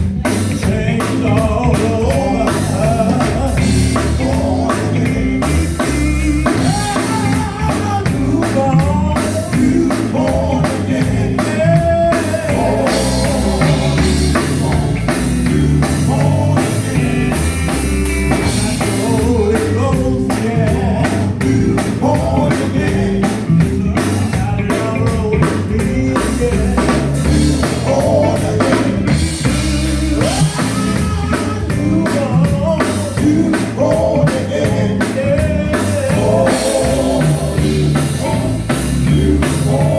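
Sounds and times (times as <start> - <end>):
backing voices singing: 0.0 - 39.9
bass: 0.0 - 39.9
drum kit: 0.0 - 39.9
electric guitar: 0.0 - 39.9
lead singer: 0.0 - 39.9.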